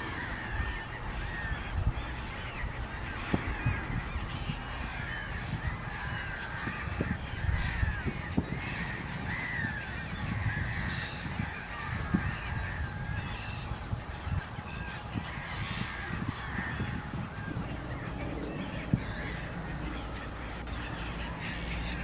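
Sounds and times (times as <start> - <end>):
low irregular rumble: 0.0 - 22.0
waterbirds honking and chattering: 0.0 - 22.0.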